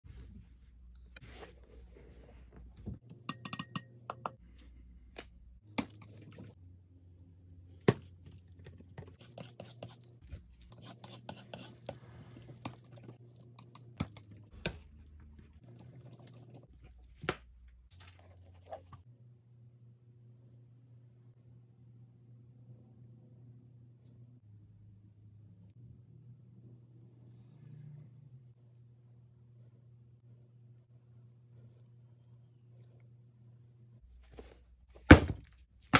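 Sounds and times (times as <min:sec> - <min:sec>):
background hum: 0:03.9 - 0:35.9.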